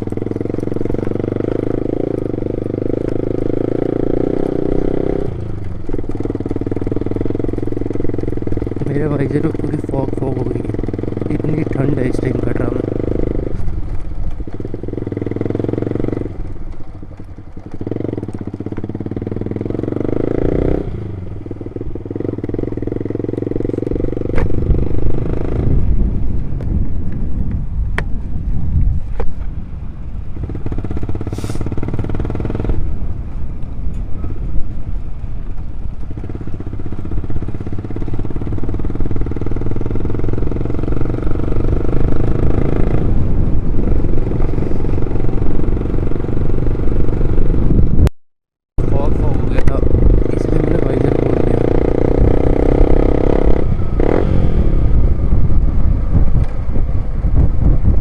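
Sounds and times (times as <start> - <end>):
motorcycle engine revving: 0.0 - 27.2, 30.2 - 33.3, 35.3 - 48.1, 48.8 - 58.0.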